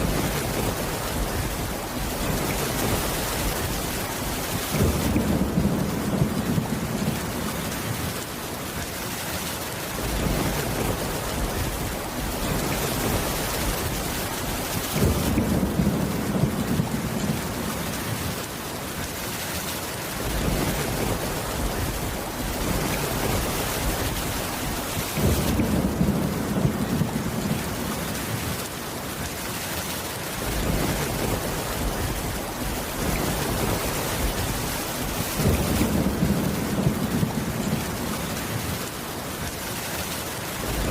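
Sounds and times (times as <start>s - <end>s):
thunder rumbling: 0.0s - 8.8s, 9.8s - 19.1s, 20.0s - 29.3s, 30.2s - 39.4s, 40.5s - 40.9s
heavy rain on a roof: 0.0s - 40.9s.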